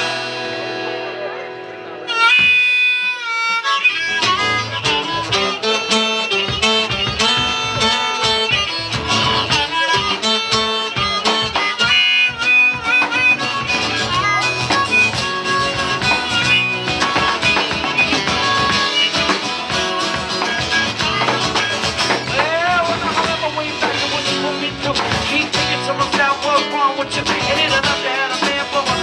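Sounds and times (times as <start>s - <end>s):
drum kit: 0.0s - 1.3s, 4.0s - 29.0s
acoustic guitar: 0.0s - 29.0s
harmonica playing bending notes: 2.0s - 29.0s.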